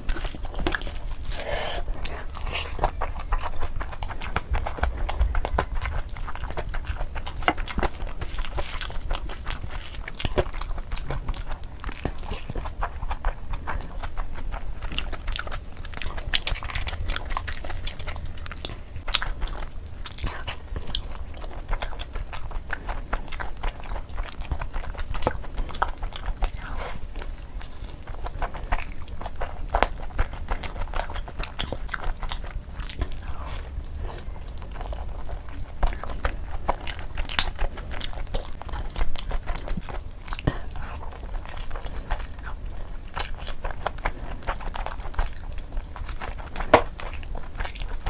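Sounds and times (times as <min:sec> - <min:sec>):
wet chewing and lip smacks: 0:00.0 - 0:48.0.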